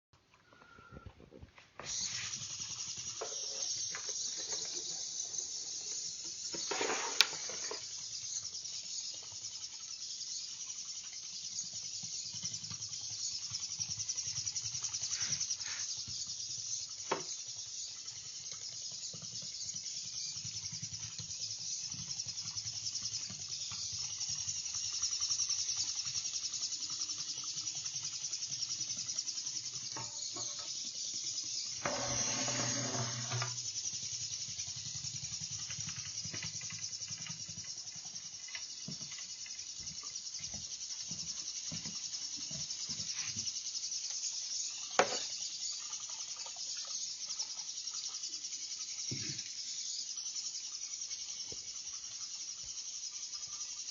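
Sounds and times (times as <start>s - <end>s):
toy robot motors whirring: 1.8s - 53.9s.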